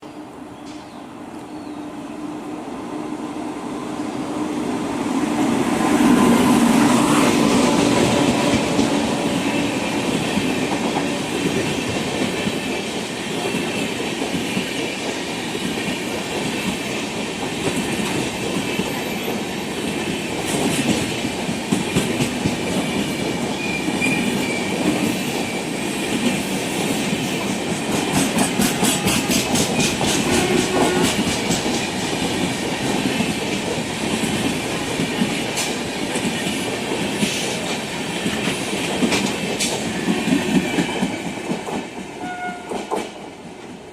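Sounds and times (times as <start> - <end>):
electric train passing: 0.0 - 43.9.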